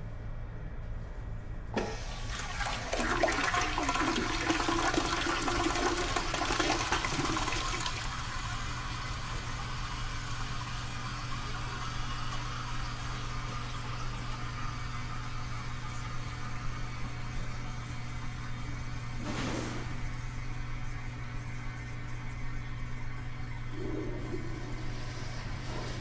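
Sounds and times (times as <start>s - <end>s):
toilet flushing: 1.8s - 26.0s.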